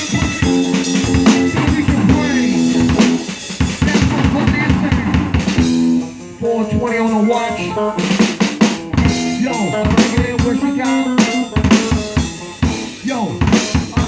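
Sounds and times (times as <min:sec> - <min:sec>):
drum beat: 0:00.0 - 0:14.0.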